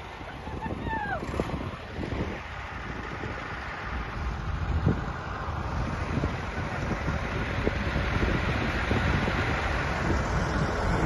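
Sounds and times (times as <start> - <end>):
diesel engine running: 0.0 - 11.0
wind on microphone: 0.0 - 11.0.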